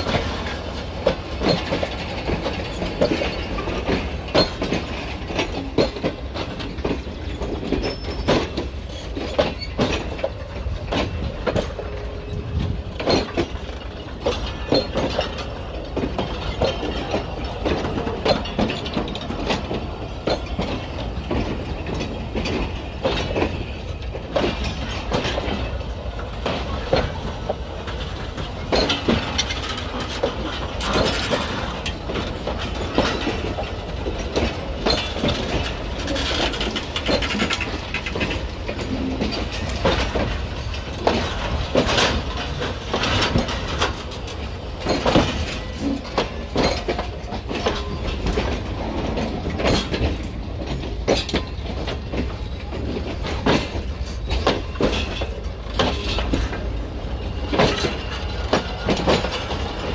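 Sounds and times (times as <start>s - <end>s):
train wheels knocking on rail joints: 0.0s - 59.9s.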